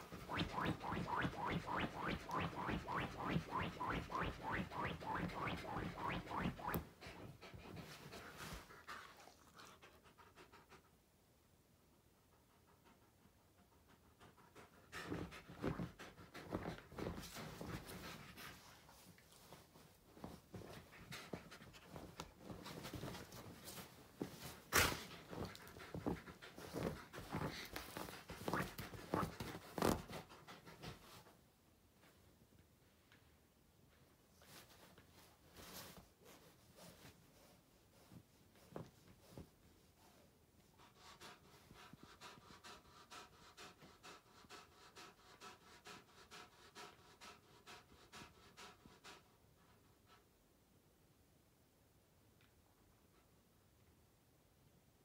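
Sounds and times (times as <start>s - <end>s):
dog panting: 0.0s - 11.0s, 12.0s - 31.4s, 35.6s - 50.3s.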